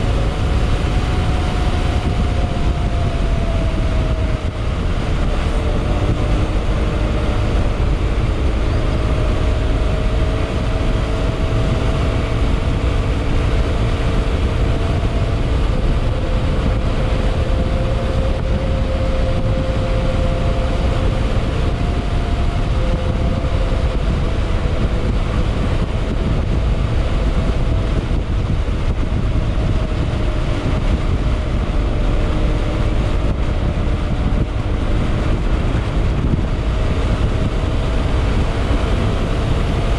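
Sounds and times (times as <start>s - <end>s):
scooter engine cruising: 0.0s - 39.9s
wind and road rumble: 0.0s - 39.9s.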